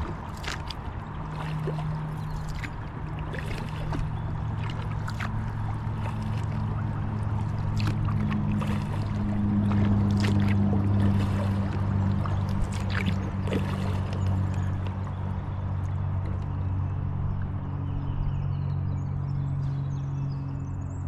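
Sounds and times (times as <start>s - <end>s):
water splashing and trickling: 0.0s - 18.9s
steady low hum: 0.0s - 21.0s.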